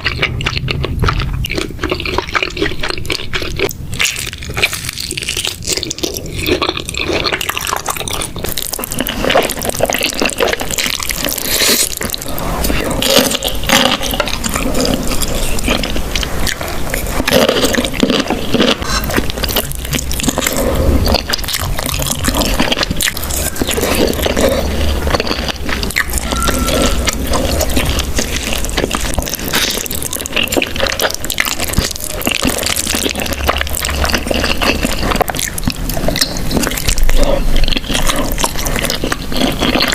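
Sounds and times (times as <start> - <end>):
noodles slurped and chewed: 0.0 - 39.9.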